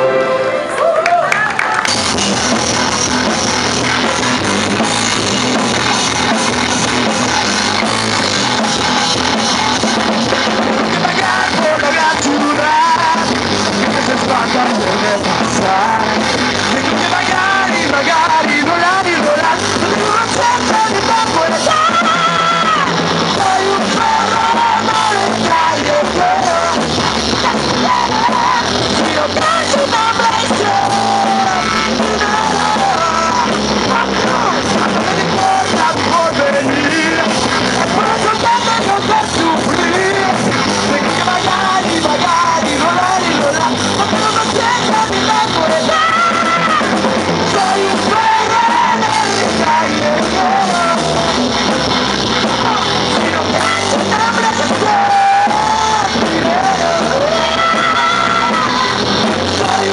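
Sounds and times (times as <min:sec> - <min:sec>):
drum kit: 0:00.0 - 0:59.9
electric guitars: 0:00.0 - 0:59.9
man singing: 0:08.6 - 0:59.9.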